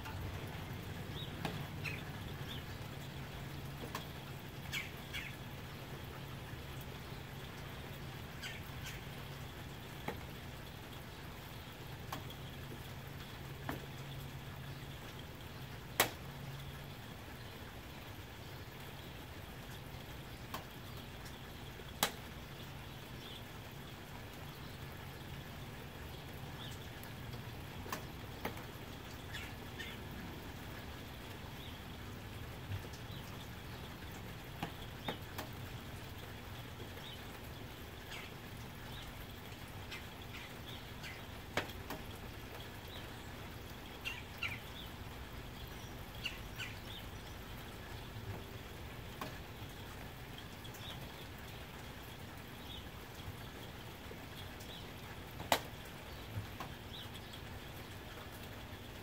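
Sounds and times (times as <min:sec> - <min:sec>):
birds chirping: 0:00.0 - 0:36.0, 0:36.6 - 0:58.6
sharp water drips: 0:00.0 - 0:59.0
soft rain: 0:00.0 - 0:59.0.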